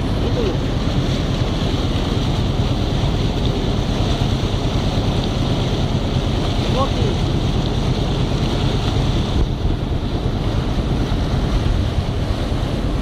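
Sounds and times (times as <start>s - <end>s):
constant low rumble: 0.0s - 13.0s
wind buffeting microphone: 0.0s - 13.0s.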